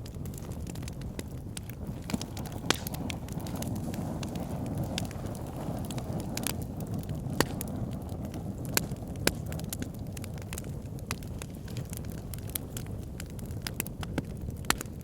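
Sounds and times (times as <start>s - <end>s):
burning wood crackling and popping: 0.0s - 15.0s
wood fire rumbling: 0.0s - 15.0s.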